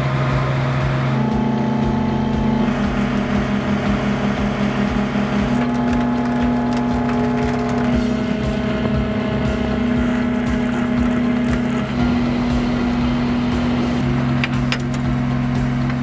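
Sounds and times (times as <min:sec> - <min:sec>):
tow truck engine running: 0:00.0 - 0:16.0.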